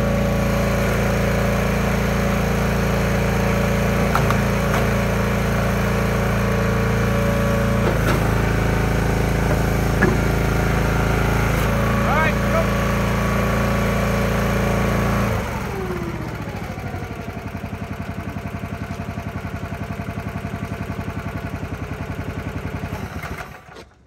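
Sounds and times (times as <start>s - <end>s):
engine running steadily: 0.0s - 23.8s.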